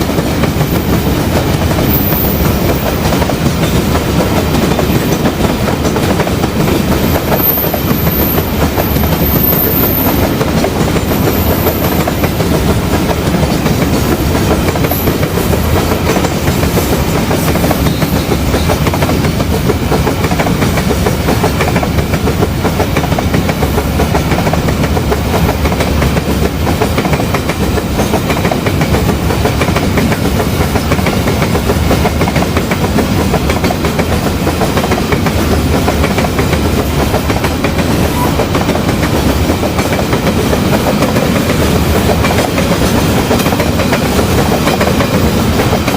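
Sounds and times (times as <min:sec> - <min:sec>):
locomotive running: 0:00.0 - 0:45.9
train wheels clattering over joints: 0:00.0 - 0:45.9.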